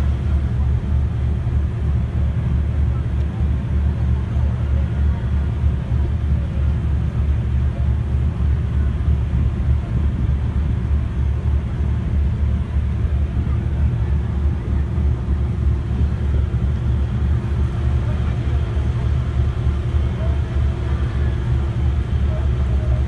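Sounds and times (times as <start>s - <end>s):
ferry engines and propeller rumble: 0.0s - 23.0s.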